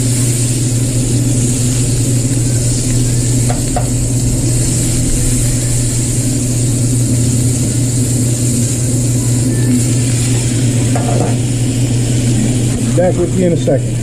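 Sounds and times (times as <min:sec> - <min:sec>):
steak sizzling on grill pan: 0:00.0 - 0:13.8
steady low hum: 0:00.0 - 0:14.0.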